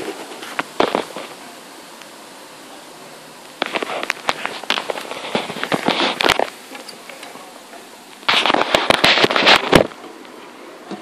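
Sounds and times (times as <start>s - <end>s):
dense crackling and clicking: 0.0s - 10.4s
rain hissing: 0.0s - 11.0s.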